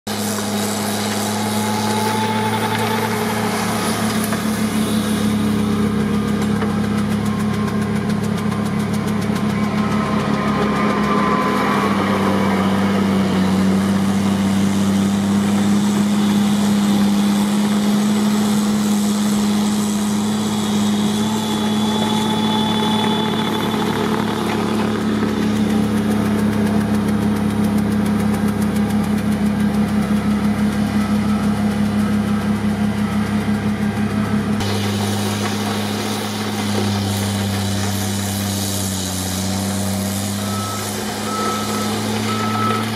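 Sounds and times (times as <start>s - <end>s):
snowblower engine droning: 0.1s - 42.9s.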